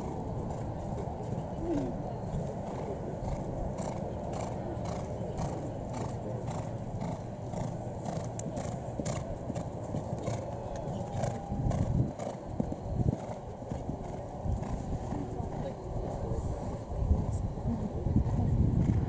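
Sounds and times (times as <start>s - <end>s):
horse hoofbeats on dirt: 0.0s - 15.8s.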